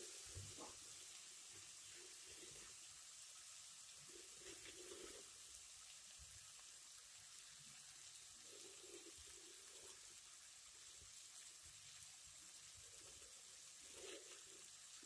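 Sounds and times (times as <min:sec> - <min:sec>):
faint sizzle of vegetables frying: 0:00.0 - 0:15.0.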